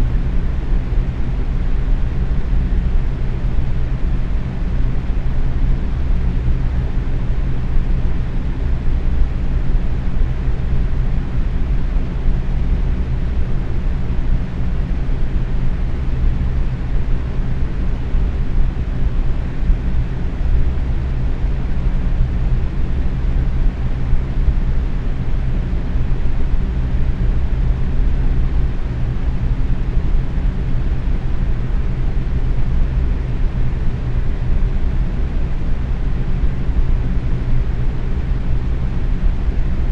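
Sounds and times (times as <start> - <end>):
faint motor hum: 0.0 - 39.9.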